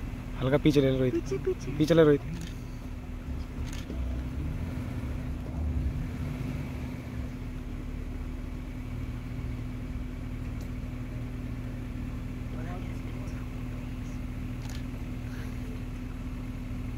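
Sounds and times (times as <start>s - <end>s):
vehicle engine running low: 0.0s - 16.9s.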